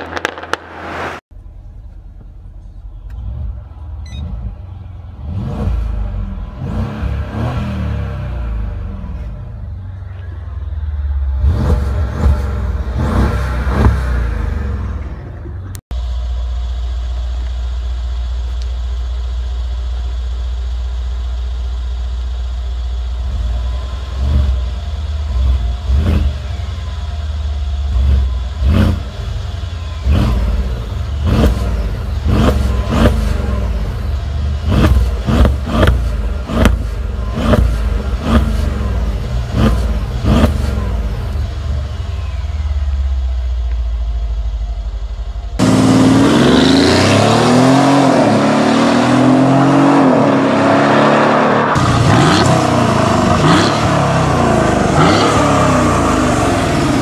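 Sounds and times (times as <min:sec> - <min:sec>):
car engine revving: 0:00.0 - 0:57.0
car exhaust idling: 0:01.3 - 0:47.0.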